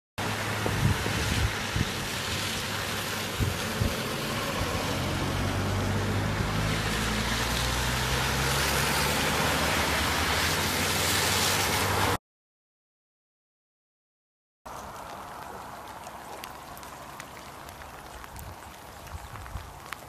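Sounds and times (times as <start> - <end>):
floodwater rushing: 0.2 - 12.2, 14.7 - 20.0.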